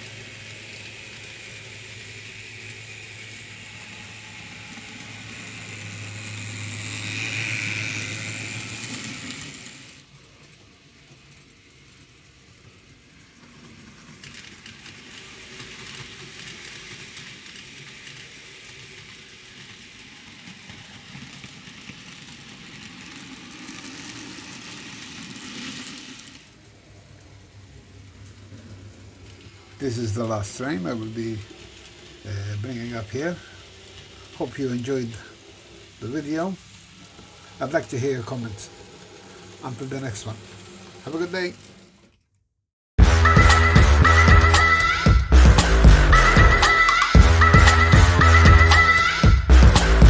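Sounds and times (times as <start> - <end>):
model train motor whirring: 0.0 - 42.4, 43.3 - 50.0.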